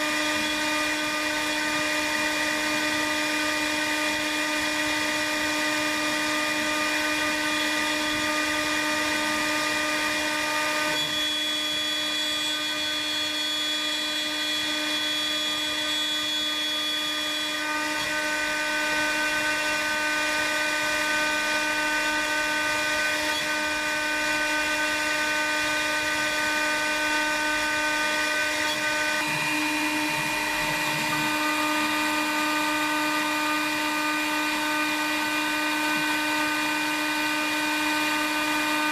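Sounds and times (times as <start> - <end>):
router spindle whining: 0.0 - 38.9.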